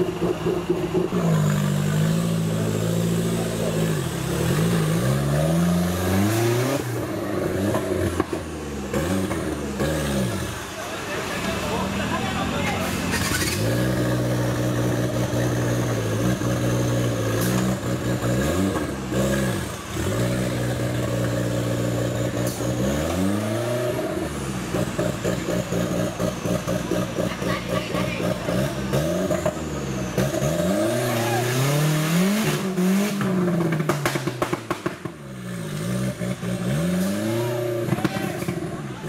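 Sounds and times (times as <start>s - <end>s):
off-road engine revving in mud: 0.0s - 39.0s.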